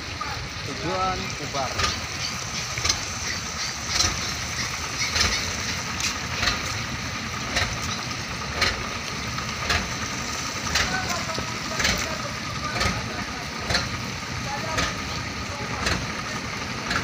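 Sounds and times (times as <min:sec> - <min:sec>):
engine idling: 0:00.0 - 0:17.0
engine knocking: 0:00.0 - 0:17.0.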